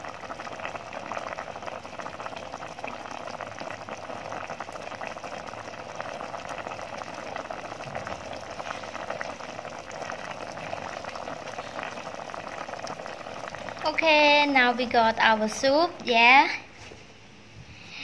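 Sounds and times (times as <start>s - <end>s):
soup bubbling with small pops: 0.0s - 15.2s.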